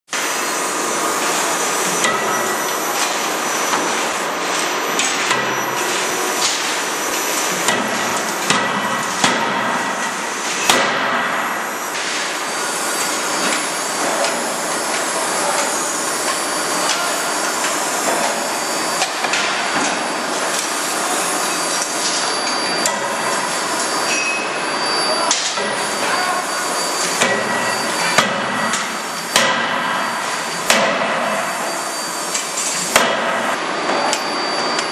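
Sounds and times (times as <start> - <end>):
loud machine noise: 0.1 - 34.9.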